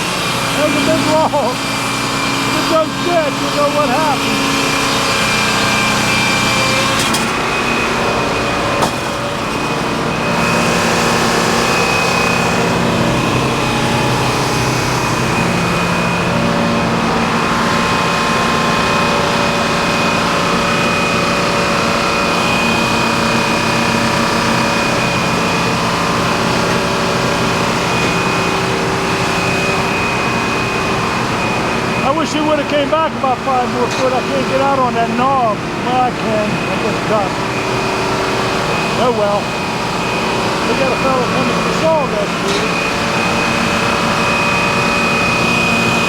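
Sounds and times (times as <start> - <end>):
high machine whine: 0.0 - 46.0
sawmill engine running: 0.0 - 46.0.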